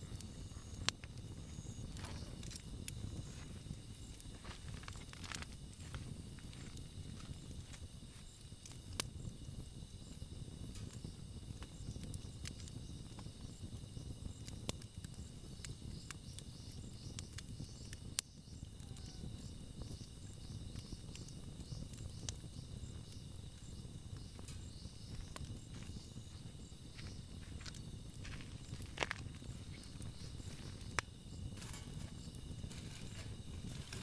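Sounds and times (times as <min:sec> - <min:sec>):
campfire crackling: 0:00.0 - 0:34.0
insects chirping: 0:00.0 - 0:34.0
sharp fire pops: 0:00.0 - 0:34.0.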